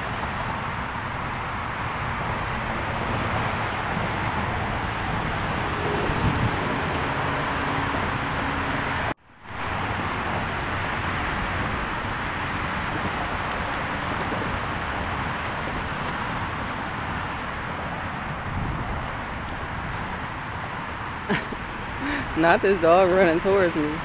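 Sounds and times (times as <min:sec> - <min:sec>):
traffic on road bridge: 0:00.0 - 0:24.0.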